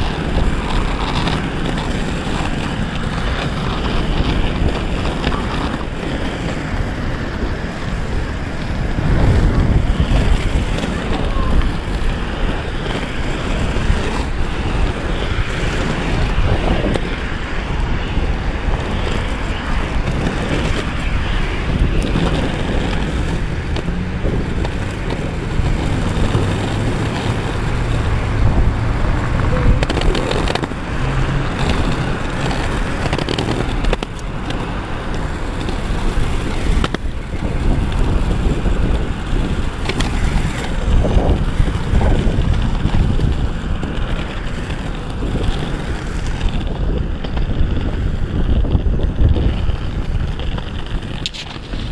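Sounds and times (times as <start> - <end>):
skateboard wheels rolling on asphalt: 0.0 - 51.9
wind buffeting microphone: 0.0 - 51.9.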